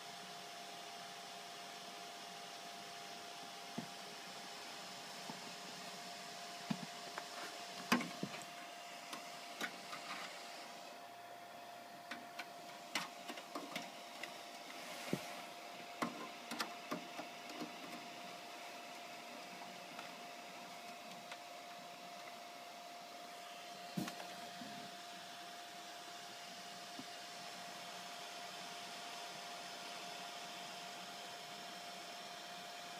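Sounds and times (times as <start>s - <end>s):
faint whine and hiss: 0.0s - 32.9s.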